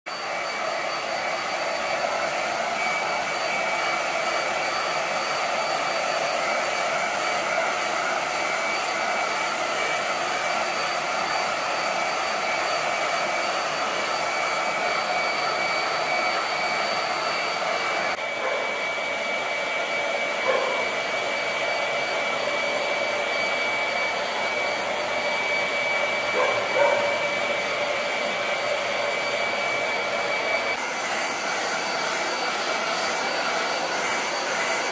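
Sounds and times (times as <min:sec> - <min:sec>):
hair dryer blowing: 0:00.0 - 0:34.9.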